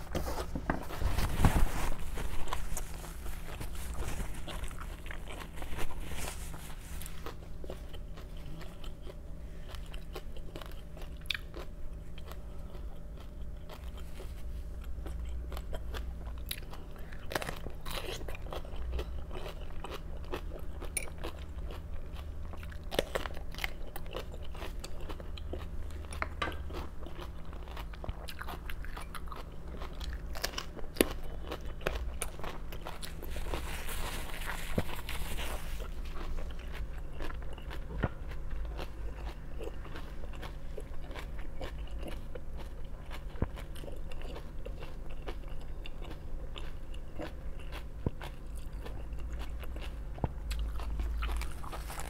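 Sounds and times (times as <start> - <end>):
steady low hum: 0.0 - 52.0
vegetables being chewed and crunched: 0.0 - 52.0.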